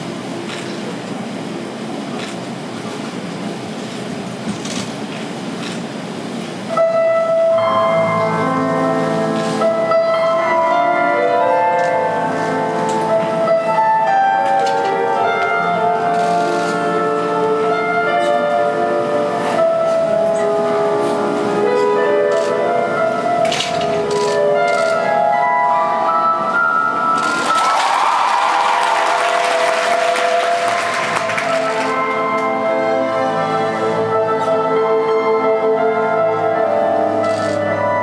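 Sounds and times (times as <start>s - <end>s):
steady background hum: 0.0s - 38.0s
melody of long held notes: 6.7s - 38.0s.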